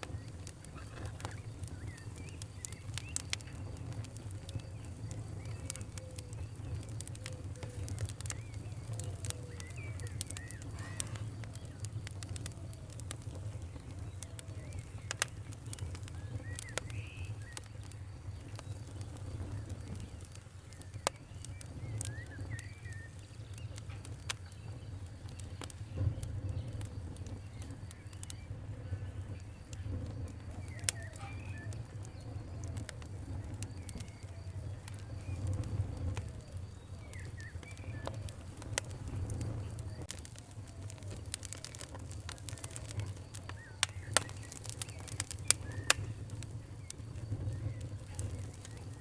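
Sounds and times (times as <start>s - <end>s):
bird chirp: 0.0s - 49.0s
fire crackling: 0.0s - 49.0s.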